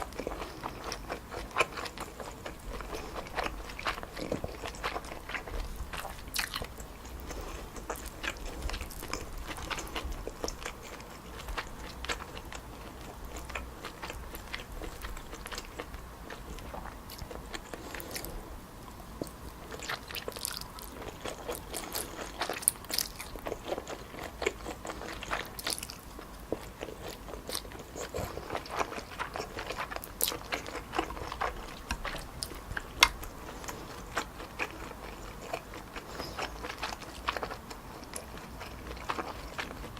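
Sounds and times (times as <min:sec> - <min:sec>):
chewing noodles: 0:00.0 - 0:18.4, 0:19.2 - 0:39.9
mouth clicks and crunches: 0:00.0 - 0:18.4, 0:19.2 - 0:39.9.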